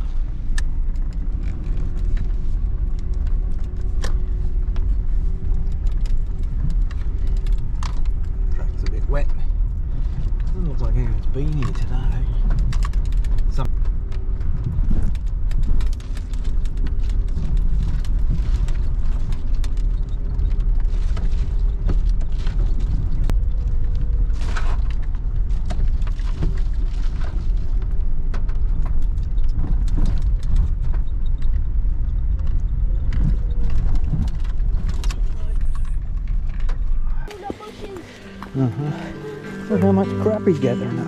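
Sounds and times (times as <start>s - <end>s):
car engine and tyre rumble: 0.0s - 41.0s.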